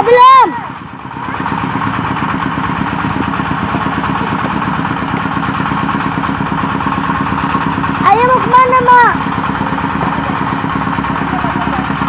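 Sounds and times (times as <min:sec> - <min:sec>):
brick-making machine running: 0:00.0 - 0:12.0.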